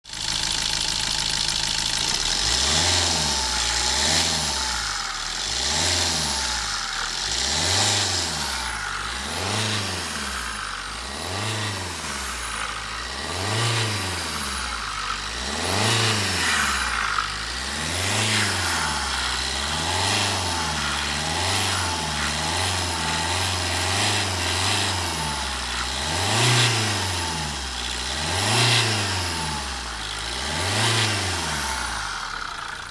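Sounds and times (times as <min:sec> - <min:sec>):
diesel engine revving: 0:00.1 - 0:32.9.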